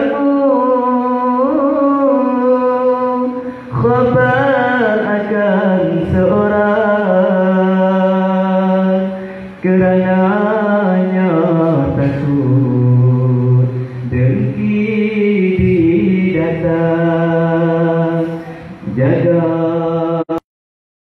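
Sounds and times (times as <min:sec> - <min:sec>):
man chanting devotional song: 0:00.0 - 0:20.4.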